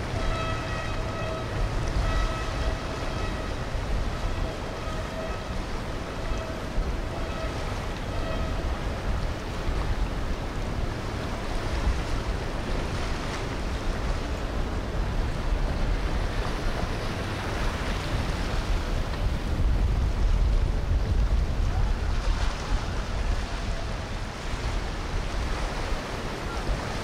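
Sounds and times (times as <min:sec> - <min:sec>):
boat engine running: 0:00.0 - 0:27.0
water rushing in wake: 0:00.0 - 0:27.0
wind buffeting microphone: 0:00.0 - 0:27.0.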